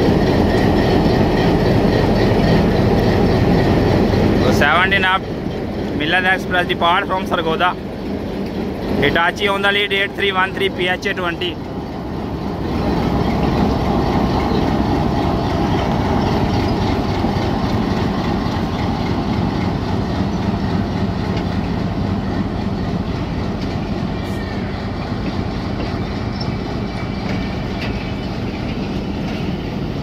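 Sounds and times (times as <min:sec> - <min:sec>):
diesel locomotive engine: 0:00.0 - 0:30.0
train coaches rolling on rails: 0:00.0 - 0:30.0.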